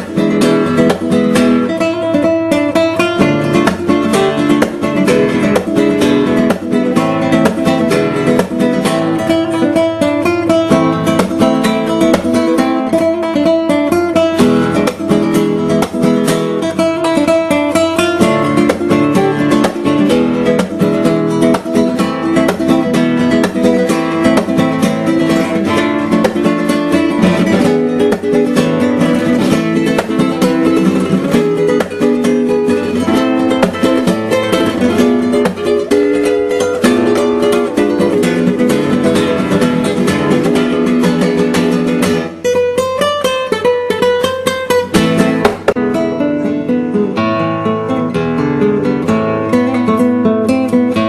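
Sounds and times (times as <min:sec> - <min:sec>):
strummed acoustic guitar: 0:00.0 - 0:51.0.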